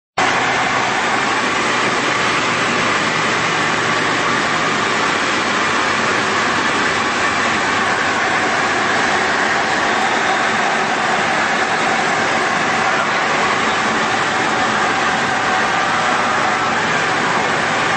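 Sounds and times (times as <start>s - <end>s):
light aircraft engine and propeller: 0.2s - 17.9s.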